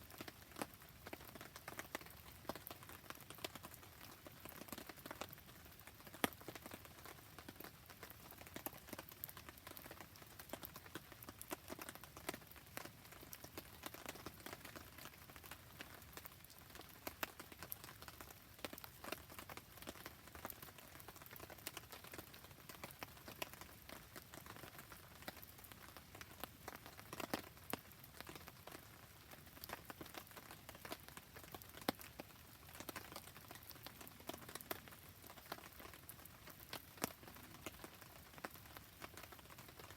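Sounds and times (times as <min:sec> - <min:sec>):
rain pattering softly: 0:00.0 - 0:39.9.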